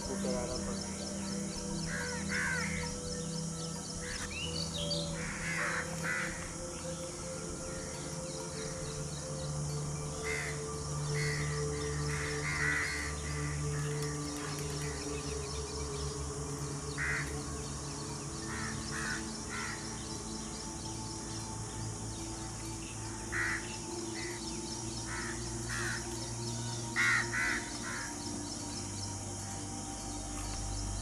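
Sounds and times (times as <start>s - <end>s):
steady low drone: 0.0s - 31.0s.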